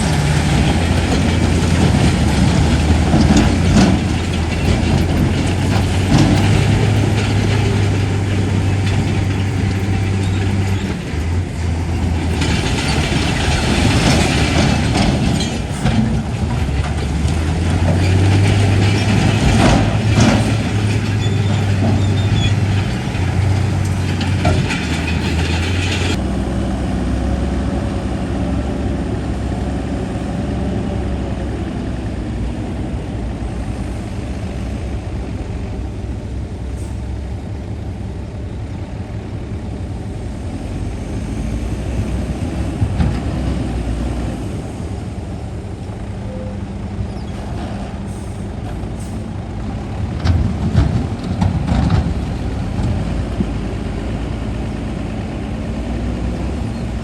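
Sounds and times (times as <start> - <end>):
tracks grinding and clanking: 0.0 - 37.0, 39.8 - 57.0
heavy diesel engine running: 0.0 - 57.0.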